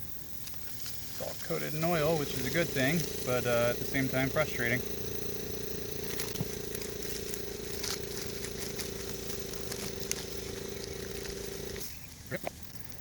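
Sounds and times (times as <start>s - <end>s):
wire brush scratching metal: 0.7s - 11.9s
power tool motor whine: 1.5s - 12.0s.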